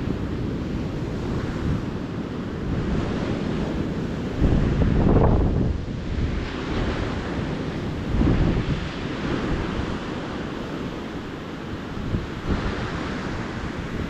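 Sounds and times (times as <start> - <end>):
ocean surf washing onto beach: 0.0 - 14.0
wave surging: 0.0 - 14.0.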